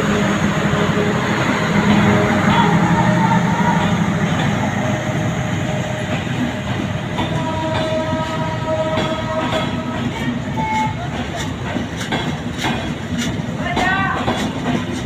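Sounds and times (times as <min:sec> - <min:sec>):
train carriages rumbling: 0:00.0 - 0:15.0.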